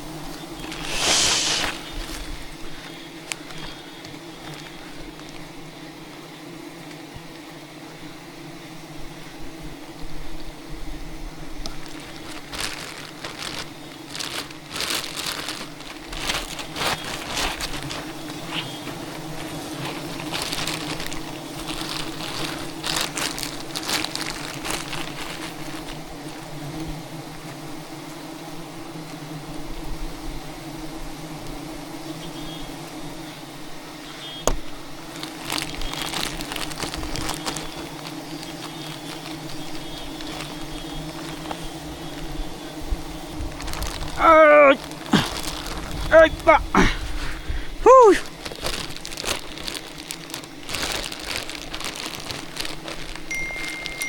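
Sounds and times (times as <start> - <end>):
crackling and rustling: 0.0 - 7.5, 11.4 - 27.6, 34.0 - 54.0
bees buzzing: 0.0 - 54.0.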